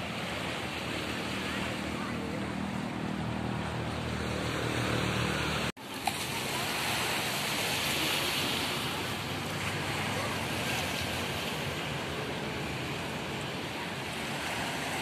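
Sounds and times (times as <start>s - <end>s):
waves washing on sandy beach: 0.0s - 15.0s.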